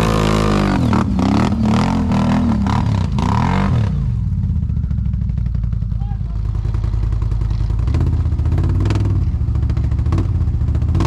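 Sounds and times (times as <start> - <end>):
atv engine revving: 0.0 - 11.0
low engine rumble: 0.8 - 11.0.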